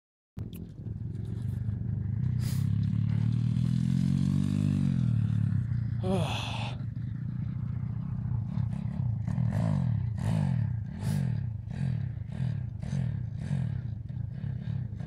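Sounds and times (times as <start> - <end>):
motorbike engine revving: 0.8 - 15.0.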